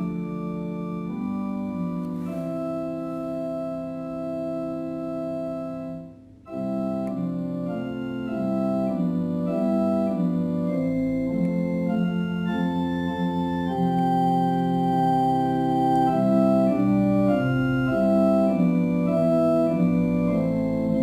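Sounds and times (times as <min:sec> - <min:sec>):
organ playing a hymn: 0:00.0 - 0:21.0.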